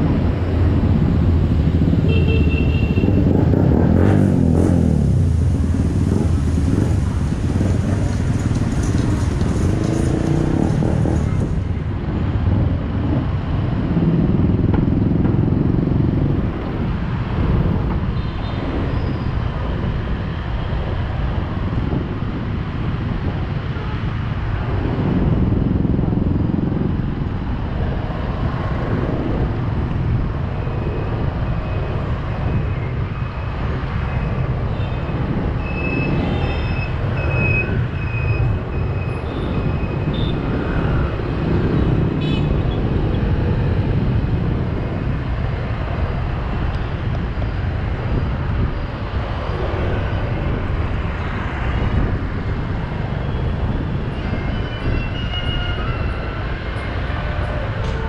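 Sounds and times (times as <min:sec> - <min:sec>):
motorbike traffic rumble: 0:00.0 - 0:58.0.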